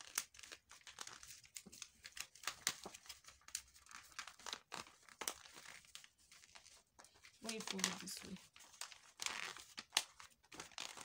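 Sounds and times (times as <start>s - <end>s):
paper crinkling: 0.0s - 11.0s.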